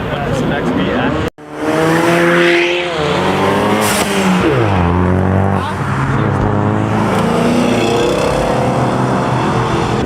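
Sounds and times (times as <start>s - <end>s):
car engine revving and accelerating: 1.2s - 10.0s.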